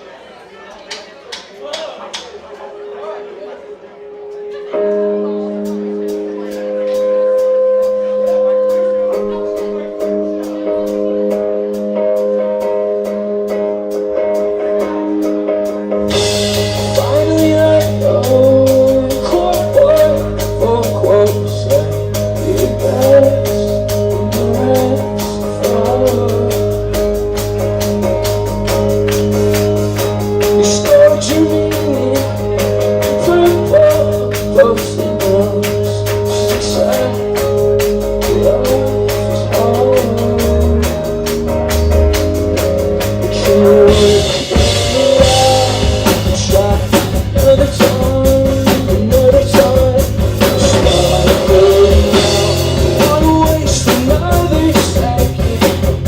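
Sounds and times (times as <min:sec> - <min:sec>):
rock band held chords: 0:04.4 - 0:56.0
drums and cymbals: 0:05.6 - 0:56.0.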